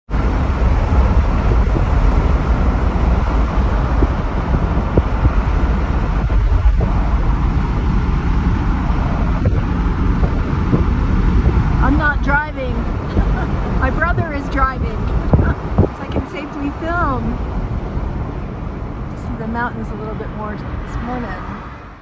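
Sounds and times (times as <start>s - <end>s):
car interior road noise: 0.1s - 22.0s.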